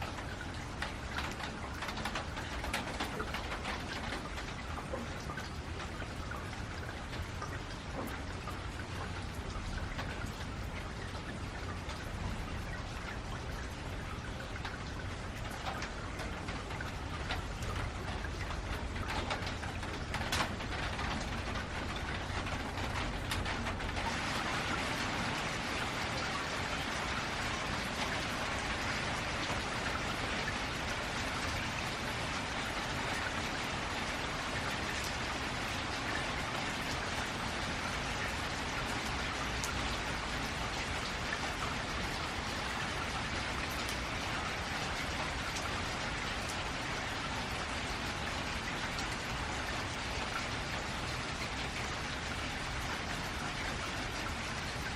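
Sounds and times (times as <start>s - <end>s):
rain drumming on a metal roof: 0.0s - 54.9s.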